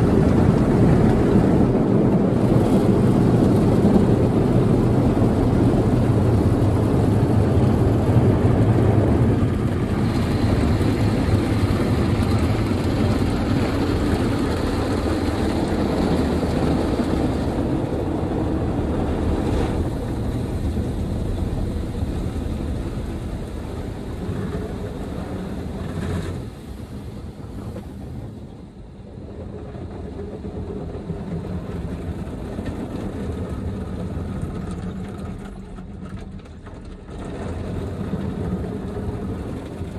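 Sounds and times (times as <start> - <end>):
car wash rotating brushes: 0.0 - 39.9
water washing over car: 0.0 - 39.9.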